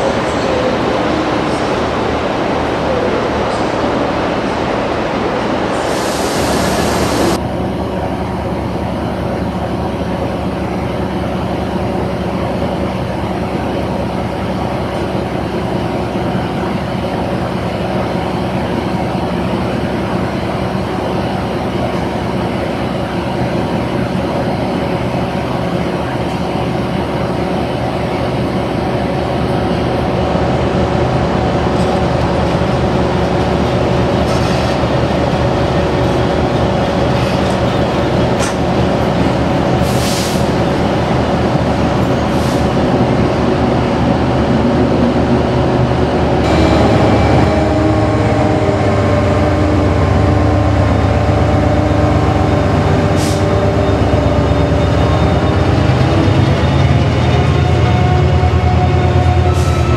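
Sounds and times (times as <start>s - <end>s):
diesel locomotive engines running: 0.0s - 59.9s
rushing train noise: 0.0s - 59.9s.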